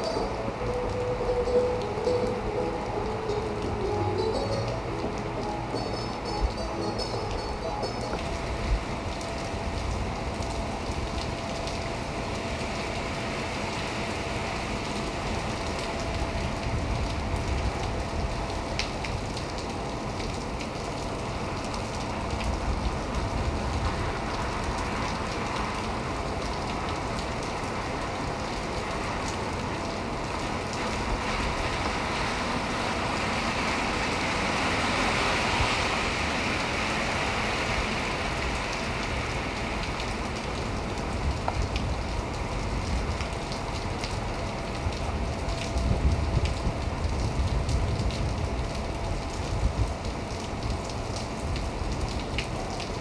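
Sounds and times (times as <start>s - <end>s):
heavy rain on pavement: 0.0s - 53.0s.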